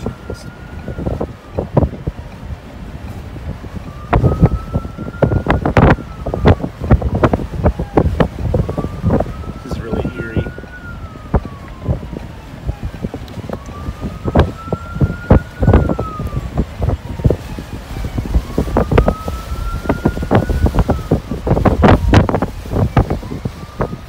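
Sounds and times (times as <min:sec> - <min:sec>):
emergency siren wailing: 0:00.0 - 0:24.0
wind gusts buffeting microphone: 0:00.0 - 0:24.0.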